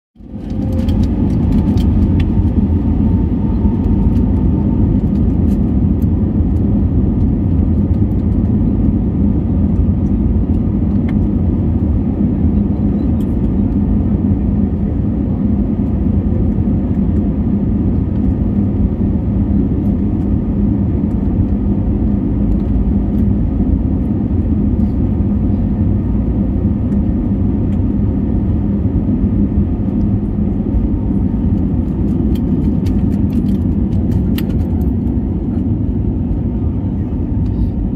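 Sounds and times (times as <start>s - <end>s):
jet engine rumble in cabin: 0.2s - 37.9s.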